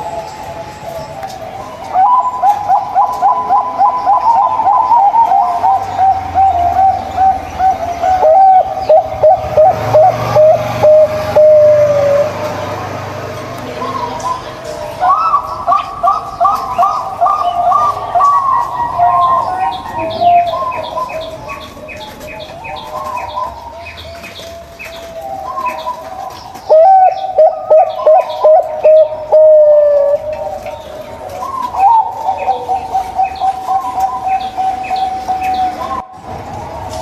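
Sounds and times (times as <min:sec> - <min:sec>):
doves cooing: 0:00.0 - 0:37.0.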